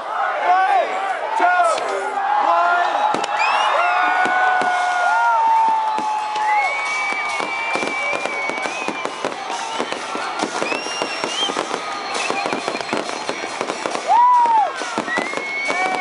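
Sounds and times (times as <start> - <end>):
crowd voices calling out: 0.0 - 16.0
firework whistle: 3.1 - 16.0
fireworks crackling and popping: 3.1 - 16.0.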